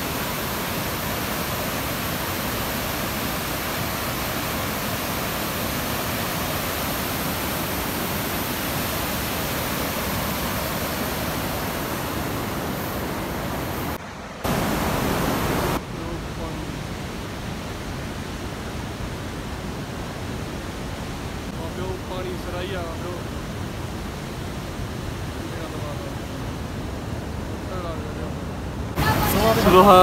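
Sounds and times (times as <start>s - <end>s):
river rushing over boulders: 0.0s - 30.0s.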